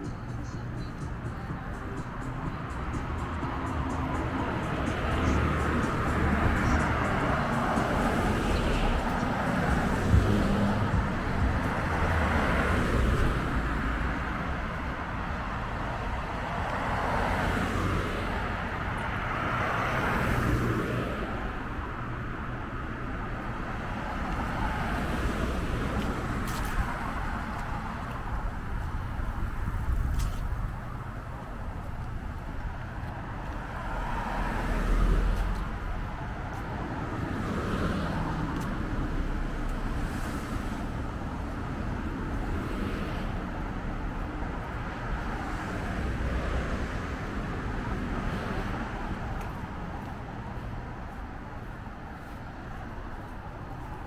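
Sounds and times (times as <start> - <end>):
cars passing close by: 0.0 - 54.0
traffic rumble: 0.0 - 54.0.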